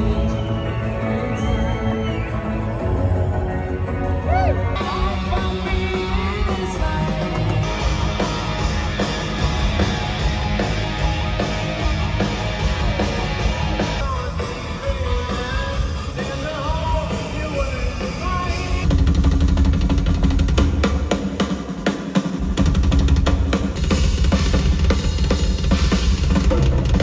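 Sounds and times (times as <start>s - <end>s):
rock band music: 4.2s - 27.0s
drum kit: 4.8s - 27.0s.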